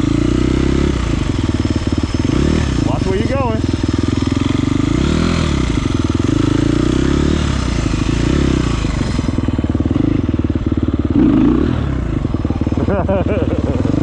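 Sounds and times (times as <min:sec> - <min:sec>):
off-road engine revving: 0:00.0 - 0:14.0.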